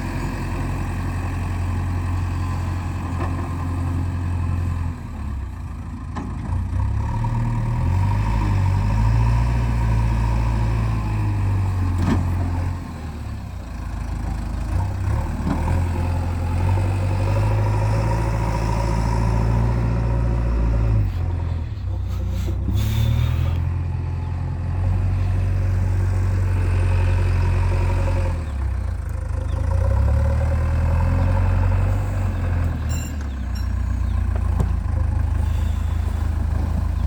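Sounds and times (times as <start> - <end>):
heavy diesel machinery running: 0.0 - 37.0.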